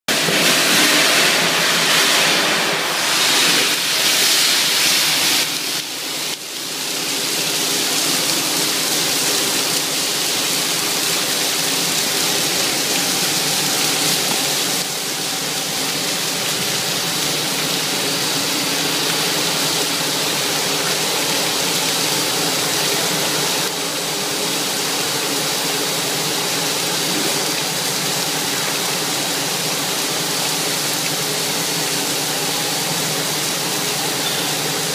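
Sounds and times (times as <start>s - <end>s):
water spray against metal tank: 0.1s - 34.9s.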